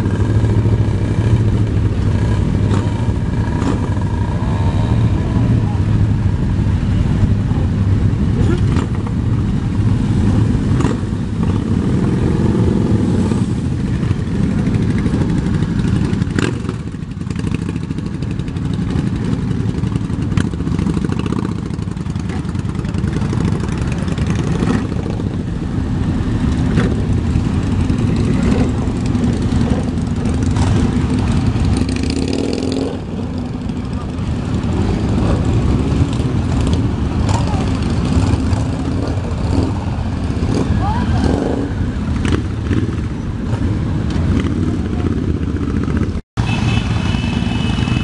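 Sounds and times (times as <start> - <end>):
motorcycle engines revving: 0.0 - 48.0
motorcycles riding past: 0.0 - 48.0.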